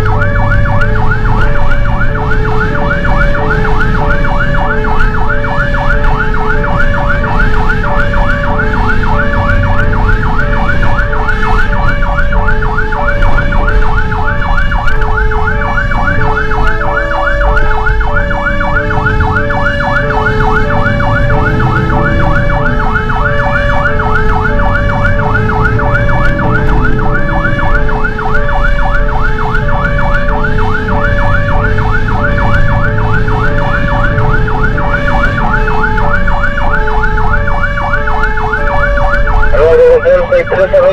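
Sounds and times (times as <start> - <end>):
truck engine rumbling: 0.0 - 40.9
two-note siren: 0.0 - 40.9
yelp siren: 0.0 - 40.9.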